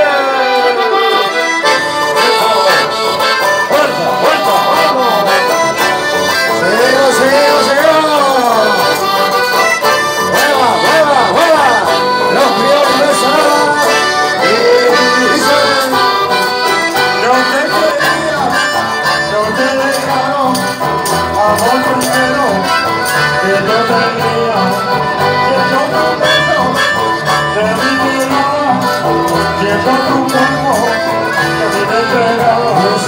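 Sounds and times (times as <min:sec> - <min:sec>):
accordions: 0:00.0 - 0:33.0
guitars strumming: 0:00.0 - 0:33.0.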